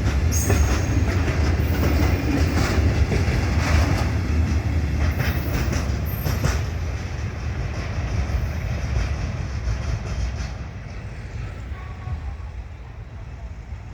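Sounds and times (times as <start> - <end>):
train wheels clacking on rail joints: 0.0 - 11.7
train rumbling: 0.0 - 13.9.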